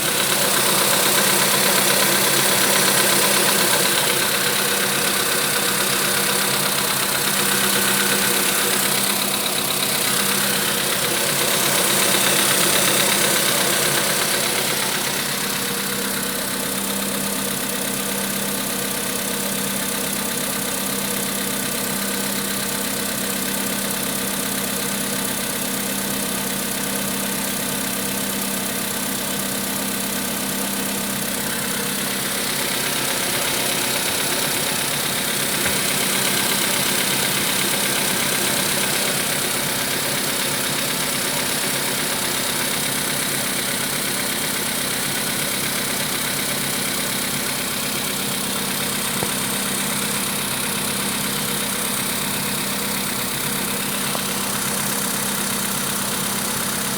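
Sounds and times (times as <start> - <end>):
car engine running: 0.0 - 56.9
engine knock: 0.0 - 56.9.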